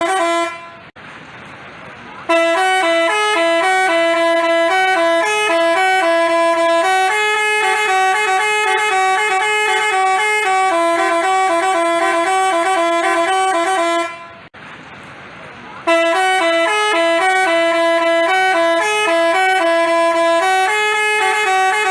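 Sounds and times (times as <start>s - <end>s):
multi-tone bus horn melody: 0.0s - 1.0s, 2.2s - 14.6s, 15.8s - 21.9s.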